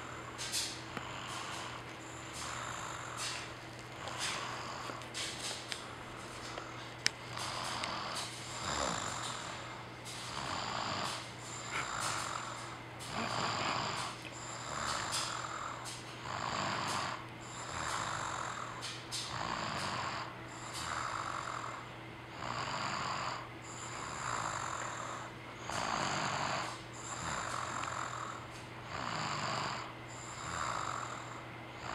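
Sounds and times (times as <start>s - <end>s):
child snoring: 0.0s - 5.5s, 6.4s - 31.9s.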